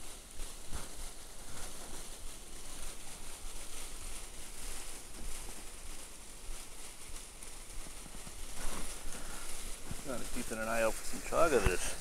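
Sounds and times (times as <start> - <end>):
footsteps in dry leaves: 0.0 - 12.0
microphone hiss and rumble: 0.0 - 12.0.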